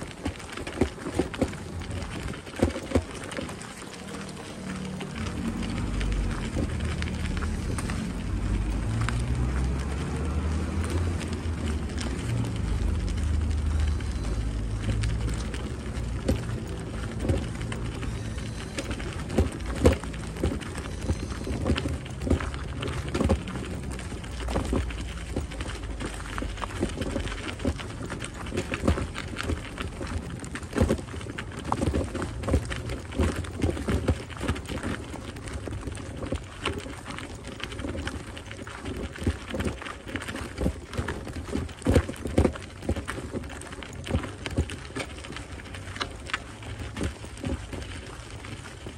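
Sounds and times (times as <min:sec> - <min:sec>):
footsteps crunching on gravel: 0:00.0 - 0:48.9.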